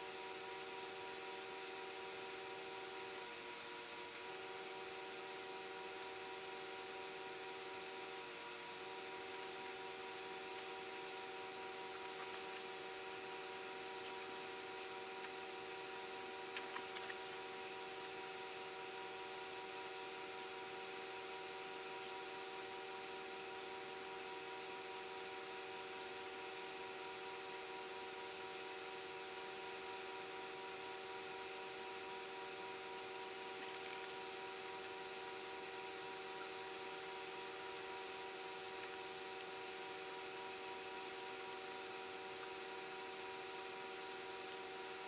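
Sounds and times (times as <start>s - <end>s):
background hum: 0.0s - 45.0s.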